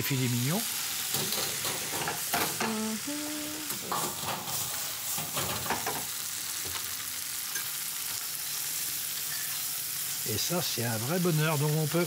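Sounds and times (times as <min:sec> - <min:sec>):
spinach sizzling in butter: 0:00.0 - 0:12.0.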